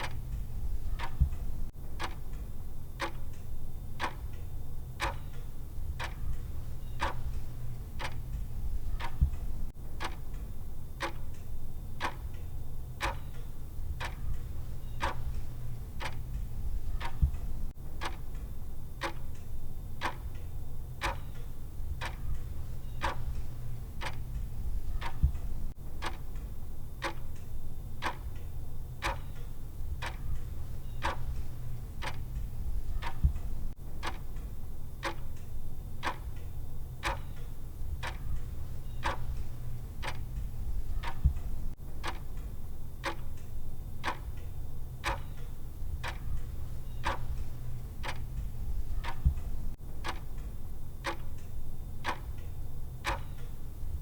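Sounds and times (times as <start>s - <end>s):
clock ticking: 0.0s - 54.0s
steady low hum: 0.0s - 54.0s.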